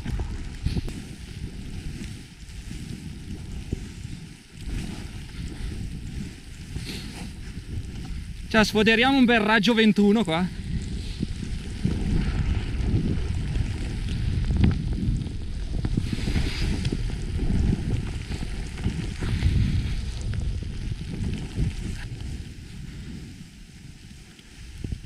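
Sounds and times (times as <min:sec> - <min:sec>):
skis carving through snow: 0:00.0 - 0:25.0
wind rushing over microphone: 0:00.0 - 0:25.0.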